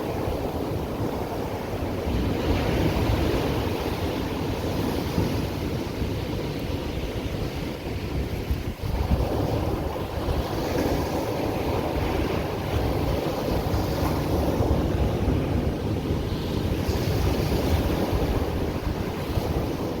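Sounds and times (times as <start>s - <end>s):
ocean surf on beach: 0.0s - 20.0s
wind buffeting microphone: 0.0s - 20.0s.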